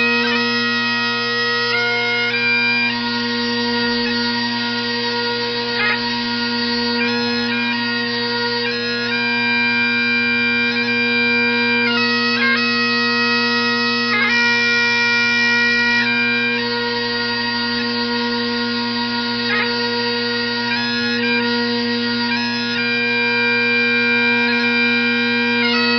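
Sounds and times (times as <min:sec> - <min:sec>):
bagpipes playing slow melody: 0:00.0 - 0:25.9.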